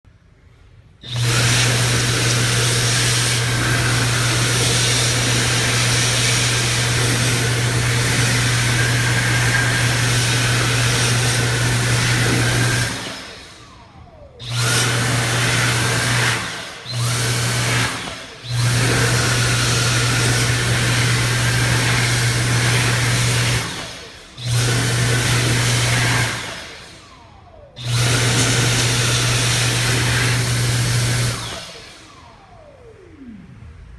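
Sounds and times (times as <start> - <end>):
hand dryer blowing: 1.0 - 33.9
motor winding down whine: 1.0 - 33.9.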